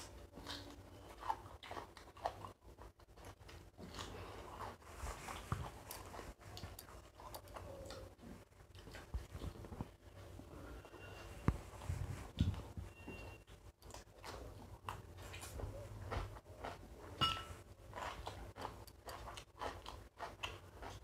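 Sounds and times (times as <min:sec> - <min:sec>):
chewing and mouth sounds: 0:00.0 - 0:10.5, 0:13.8 - 0:17.2, 0:17.9 - 0:21.0.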